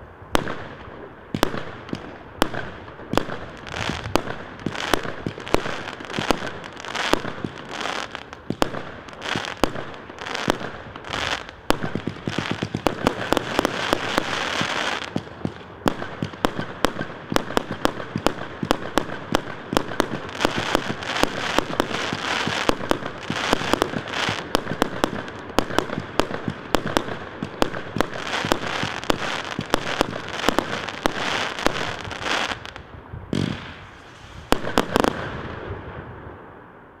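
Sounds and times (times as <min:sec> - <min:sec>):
fireworks launching and bursting: 0:00.3 - 0:37.0.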